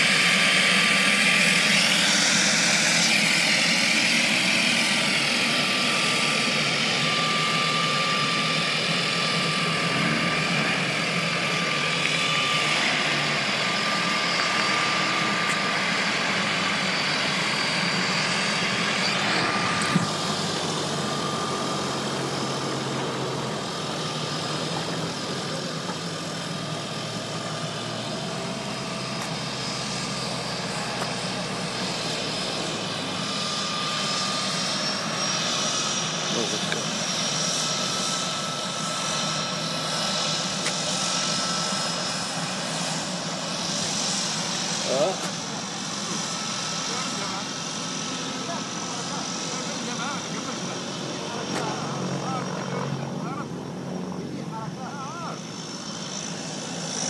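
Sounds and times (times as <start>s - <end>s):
turboprop engines whining: 0.0s - 57.0s.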